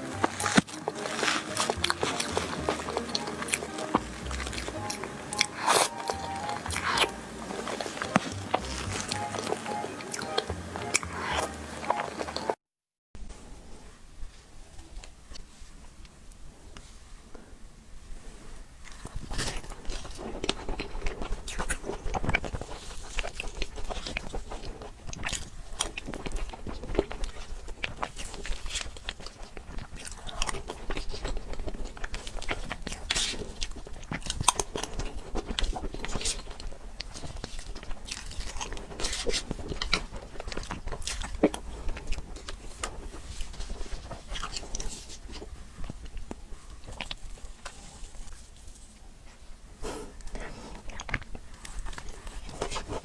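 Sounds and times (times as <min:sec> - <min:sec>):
chewing and biting: 0:00.0 - 0:12.6, 0:18.8 - 0:53.0.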